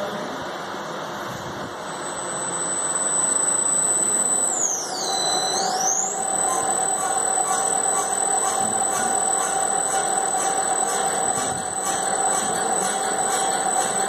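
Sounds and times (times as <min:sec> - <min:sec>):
high whine: 0:00.0 - 0:14.0
steady mid tone: 0:01.6 - 0:14.0
washing machine running: 0:01.6 - 0:14.0.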